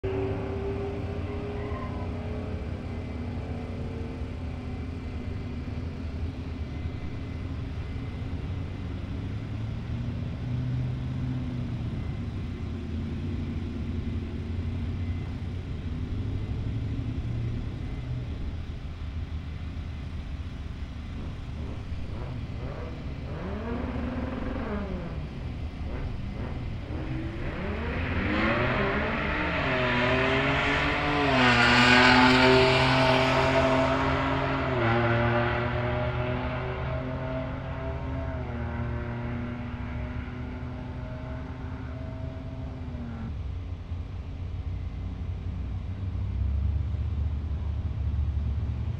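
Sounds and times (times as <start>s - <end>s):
trucks accelerating and passing: 0.0s - 43.6s
trucks humming at the line: 0.0s - 48.9s.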